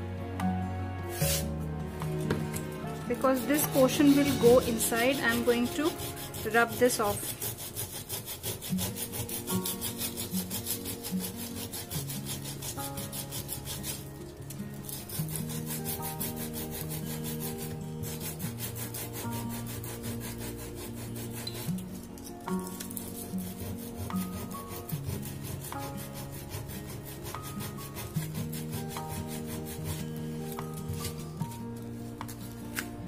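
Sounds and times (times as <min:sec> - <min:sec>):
soft background music: 0:00.0 - 0:33.0
sanding block scratching wood: 0:01.1 - 0:01.5, 0:03.0 - 0:14.1, 0:14.8 - 0:22.1, 0:22.7 - 0:31.4.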